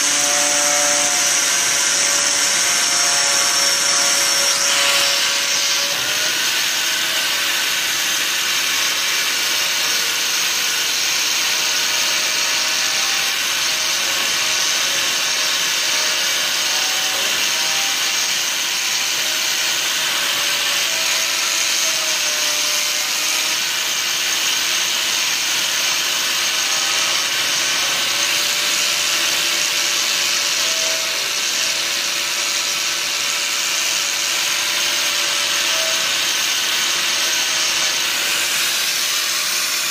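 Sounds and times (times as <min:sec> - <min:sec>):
angle grinder polishing metal: 0:00.0 - 0:39.9.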